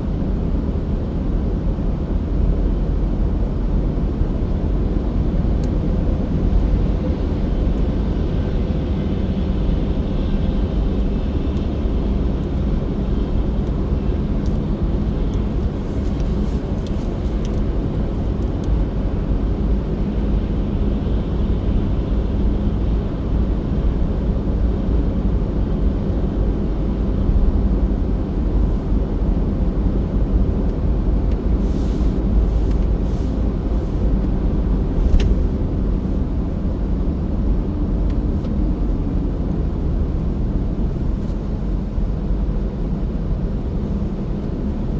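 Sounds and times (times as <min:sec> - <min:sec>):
car engine humming while driving: 0:00.0 - 0:44.9.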